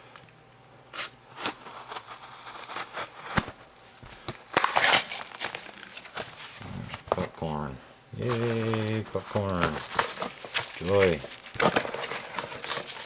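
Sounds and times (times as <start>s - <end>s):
packaging tearing and crinkling: 1.0s - 7.4s, 8.2s - 13.0s.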